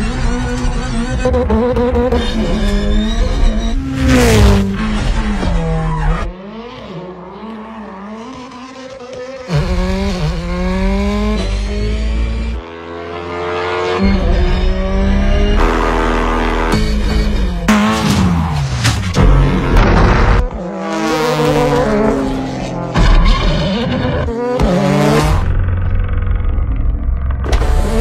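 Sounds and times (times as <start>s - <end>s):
racing car engines accelerating: 0.0s - 26.3s.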